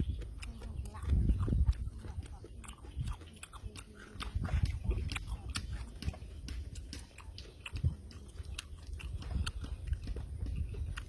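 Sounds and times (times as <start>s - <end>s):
man chewing food: 0.0s - 11.0s
wet clicks and crunches: 0.0s - 11.0s.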